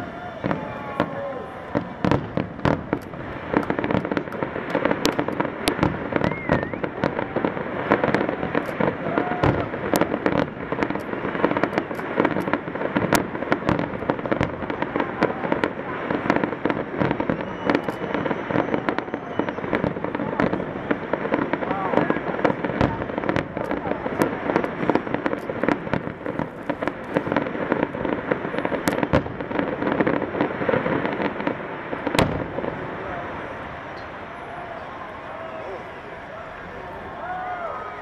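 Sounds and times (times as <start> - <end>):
fireworks bursting with sharp bangs: 0.0 - 38.0.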